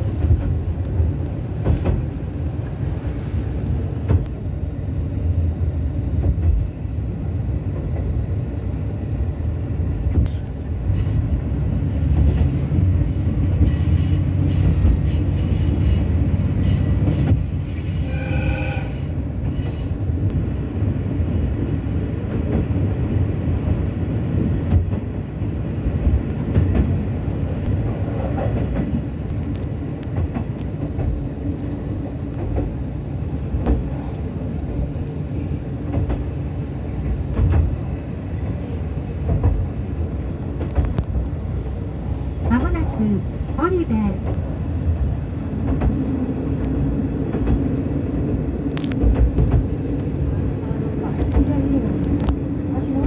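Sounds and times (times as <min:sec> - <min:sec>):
rail joint clicks: 0:00.0 - 0:04.4, 0:05.6 - 0:09.2, 0:09.8 - 0:20.4, 0:22.1 - 0:53.0
railcar engine and wheels rumbling: 0:00.0 - 0:53.0.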